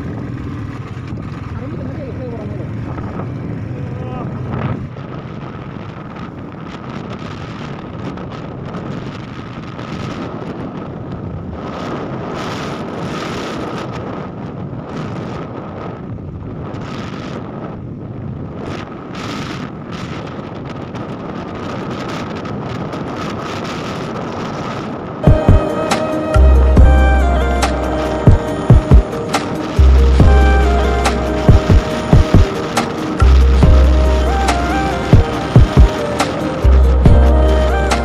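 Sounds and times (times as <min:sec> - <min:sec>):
motorcycle engine and road noise: 0:00.0 - 0:38.0
wind buffeting microphone: 0:00.0 - 0:38.0.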